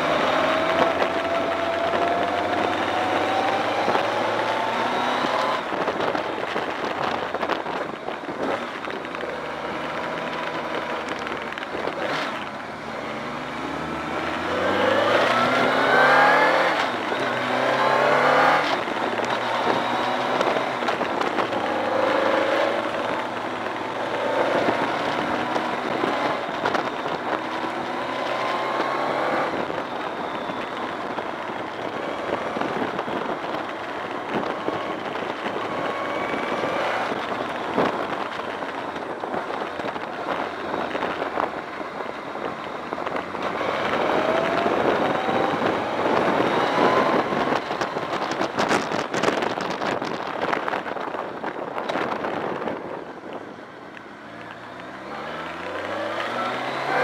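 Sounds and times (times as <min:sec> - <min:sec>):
motorcycle engine revving: 0:00.0 - 0:53.3, 0:54.1 - 0:57.0
road noise: 0:00.0 - 0:57.0
wind noise: 0:00.0 - 0:57.0.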